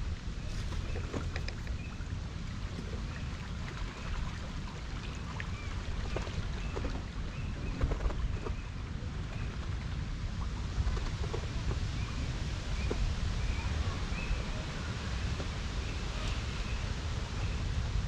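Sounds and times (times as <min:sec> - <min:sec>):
water lapping and trickling: 0:00.0 - 0:18.0
wind rumbling on microphone: 0:00.0 - 0:18.0.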